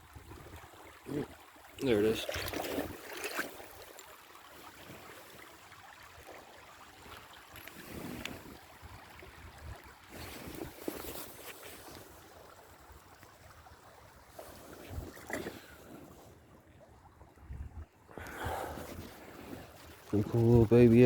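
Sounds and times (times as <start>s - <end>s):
creek water sloshing: 0.0s - 21.0s.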